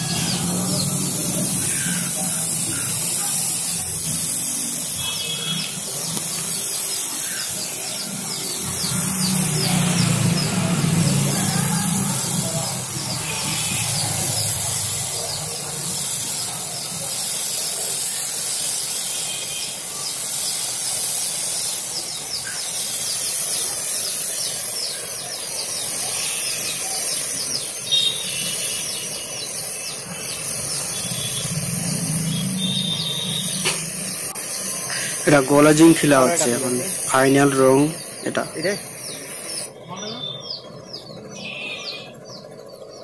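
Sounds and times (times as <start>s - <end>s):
spray gun hissing: 0.0s - 42.4s.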